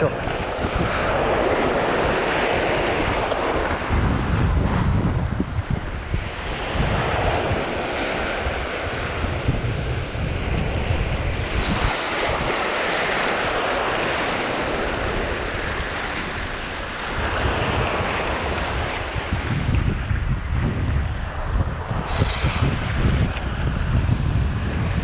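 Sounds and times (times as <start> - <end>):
surf washing in: 0.0 - 25.0
wind buffeting microphone: 0.0 - 25.0.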